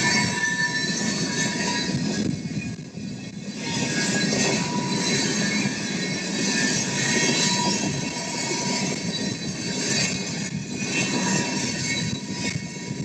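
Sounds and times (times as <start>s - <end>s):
high wheel squeal: 0.0s - 13.0s
train wheels rumbling on rails: 0.0s - 13.0s.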